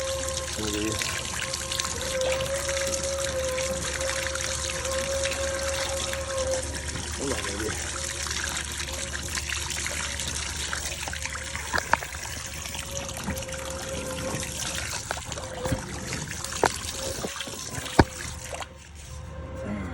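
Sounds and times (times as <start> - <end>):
water rushing and trickling: 0.0 - 19.6.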